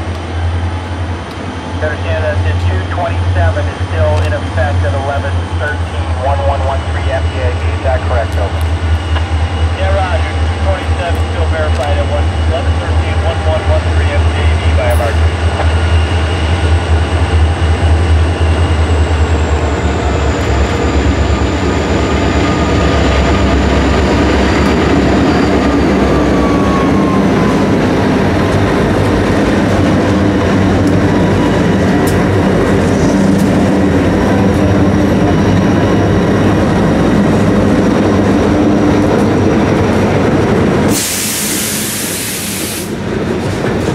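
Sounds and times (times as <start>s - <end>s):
diesel locomotive rumble: 0.0s - 43.9s
train wheel rumble: 0.0s - 43.9s.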